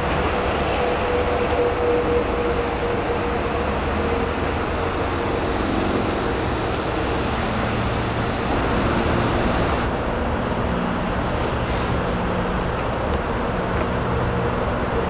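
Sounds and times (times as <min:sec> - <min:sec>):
diesel locomotive engine rumble: 0:00.0 - 0:15.0
rush of passing train: 0:00.0 - 0:15.0.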